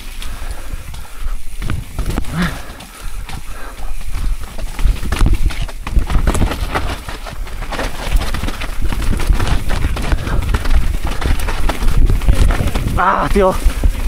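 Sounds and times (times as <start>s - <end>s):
bike frame and chain rattling: 0.0s - 14.0s
constant low rumble: 0.0s - 14.0s.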